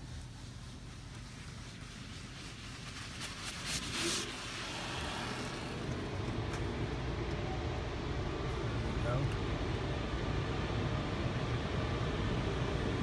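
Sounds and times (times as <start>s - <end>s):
car wash machinery rumbling: 0.0s - 13.0s.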